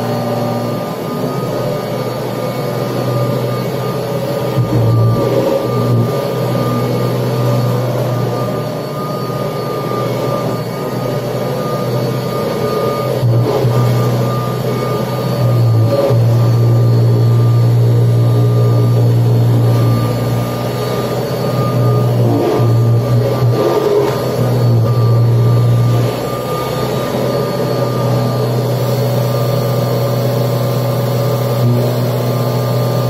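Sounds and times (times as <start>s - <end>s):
upright vacuum cleaner running: 0.0s - 33.0s.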